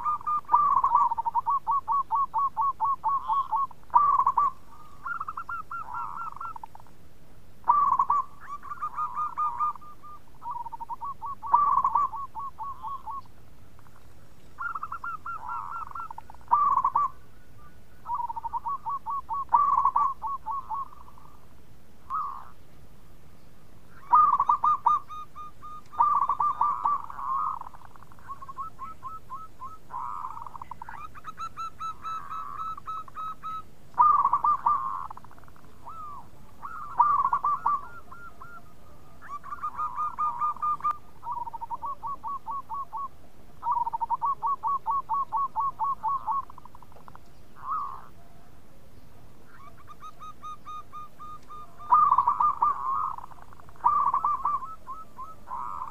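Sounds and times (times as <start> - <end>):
dove cooing: 0.0 - 7.0, 7.6 - 21.5, 22.1 - 22.6, 23.8 - 48.6, 49.2 - 55.9.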